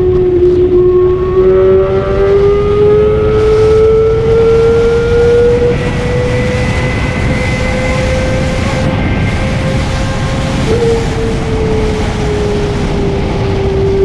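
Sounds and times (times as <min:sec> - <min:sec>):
motorcycle engine at high revs: 0:00.0 - 0:14.0
wind rush: 0:00.0 - 0:14.0.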